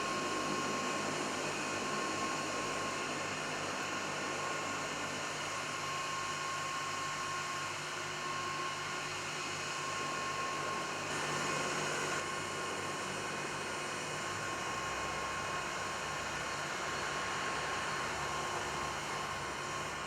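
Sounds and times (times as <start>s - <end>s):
jet engine hiss and whine: 0.0s - 20.0s.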